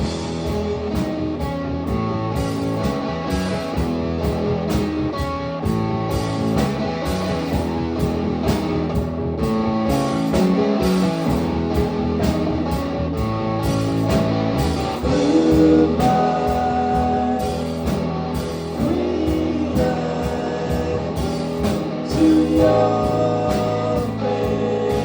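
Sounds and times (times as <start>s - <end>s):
guitar-led rock music: 0.0s - 25.0s.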